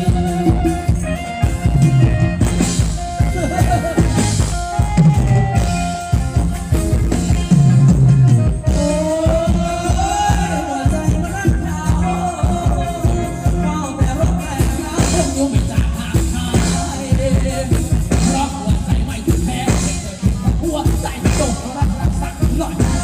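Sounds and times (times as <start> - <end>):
live band dance music: 0.0 - 23.0.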